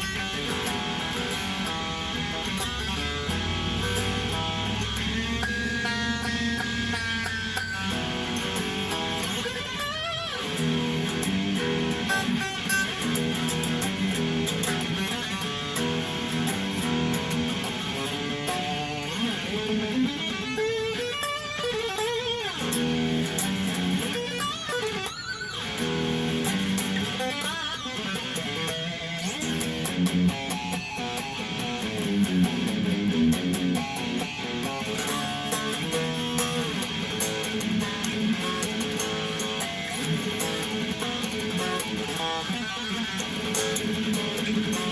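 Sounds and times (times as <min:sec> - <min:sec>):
electric guitar chords and lines: 0:00.0 - 0:44.9.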